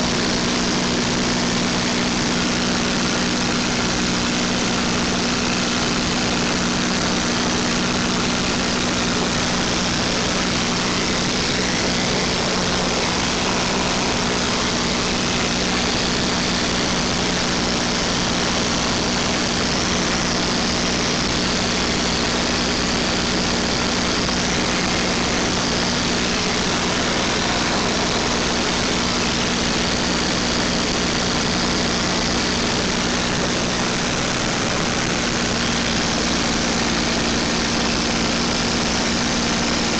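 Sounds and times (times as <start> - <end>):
piston engine drone: 0.0 - 39.9
rushing air: 0.0 - 39.9.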